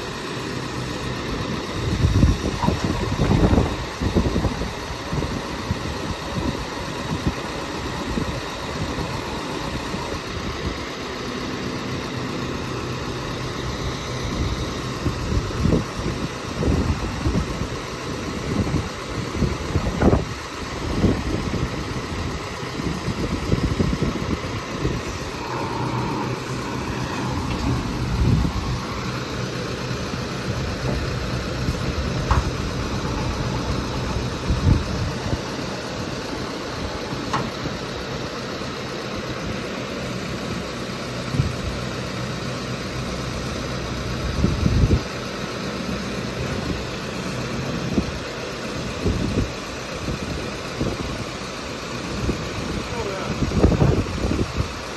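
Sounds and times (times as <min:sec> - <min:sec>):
hydraulic crane hum: 0:00.0 - 0:54.9
truck engine running: 0:00.0 - 0:54.9.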